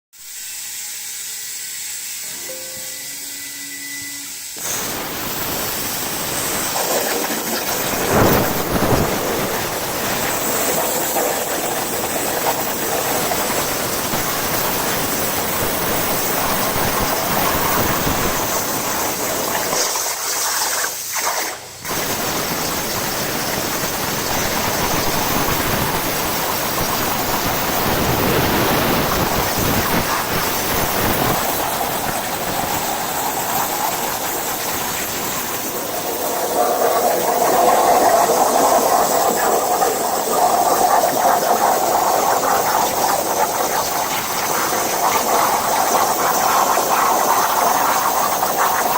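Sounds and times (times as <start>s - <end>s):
plasma cutter hissing and crackling: 0.2s - 48.9s.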